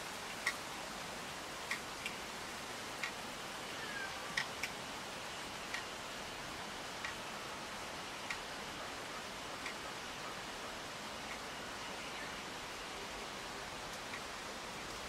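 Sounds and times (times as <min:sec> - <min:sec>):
forest ambience hiss: 0:00.0 - 0:15.0.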